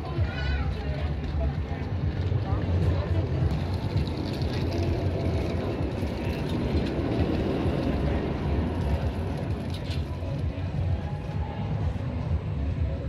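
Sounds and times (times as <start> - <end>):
roller coaster train rumbling: 0.0 - 13.0.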